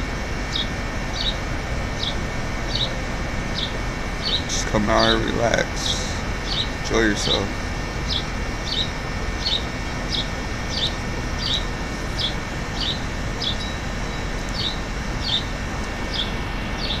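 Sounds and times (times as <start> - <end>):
bird chirping: 0.5 - 1.4, 2.0 - 5.2, 6.4 - 17.0.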